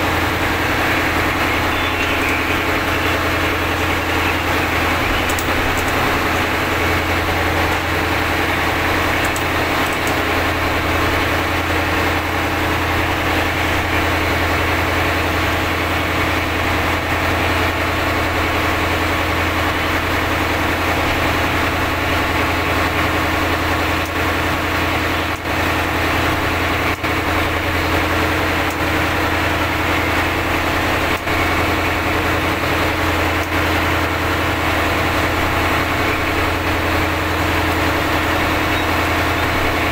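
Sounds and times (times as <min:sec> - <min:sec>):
boat engine low drone: 0:00.0 - 0:39.9.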